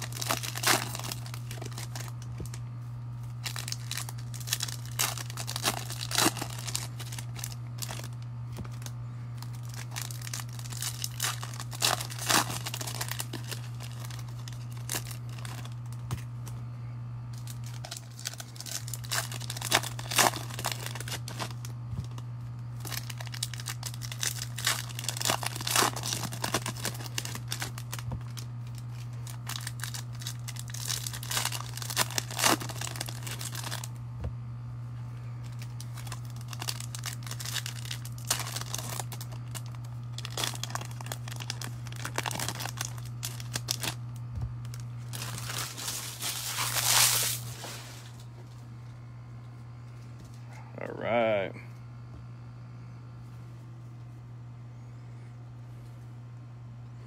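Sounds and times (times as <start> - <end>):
plastic wrappers crinkling and tearing: 0.0 - 16.6, 17.3 - 34.0, 35.4 - 48.3
steady low hum: 0.0 - 57.0.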